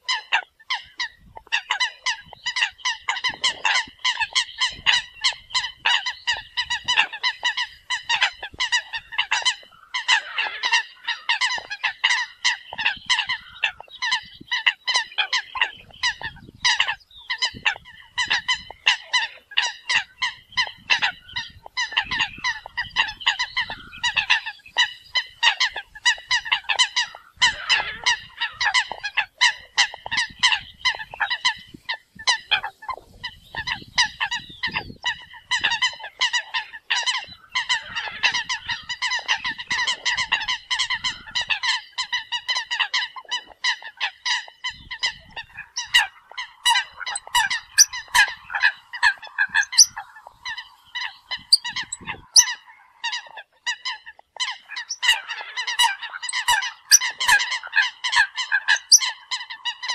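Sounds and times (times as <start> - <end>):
flock of coots calling: 0.0 - 59.9.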